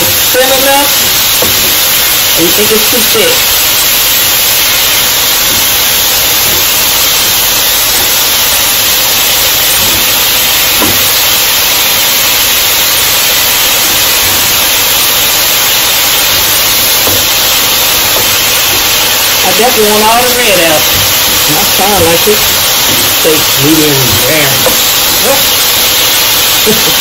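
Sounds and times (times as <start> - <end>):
steak sizzling in a pan: 0.0 - 27.0.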